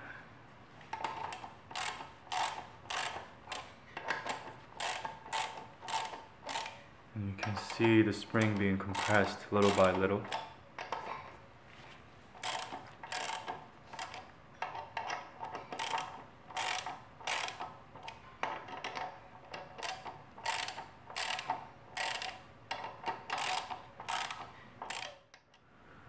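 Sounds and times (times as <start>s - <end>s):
hand ratchet clicking: 0.9s - 6.8s, 7.4s - 11.1s, 12.4s - 25.4s.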